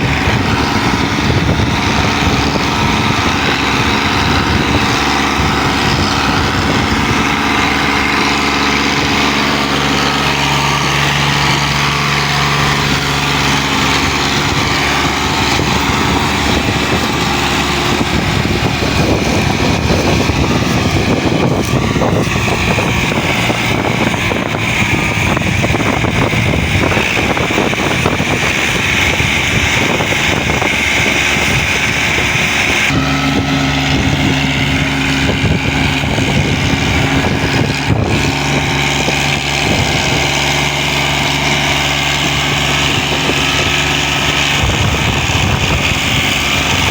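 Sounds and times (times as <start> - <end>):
diesel tractor engines under load: 0.0 - 46.9.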